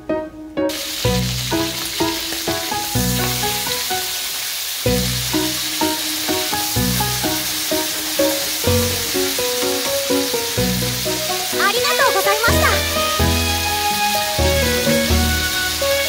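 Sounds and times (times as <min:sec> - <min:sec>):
background music: 0:00.0 - 0:16.0
steaks sizzling in a pan: 0:00.7 - 0:16.0.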